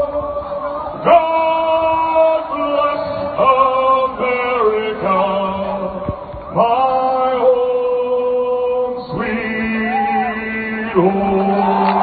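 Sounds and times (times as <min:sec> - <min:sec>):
man singing over loudspeakers: 0:00.0 - 0:12.0.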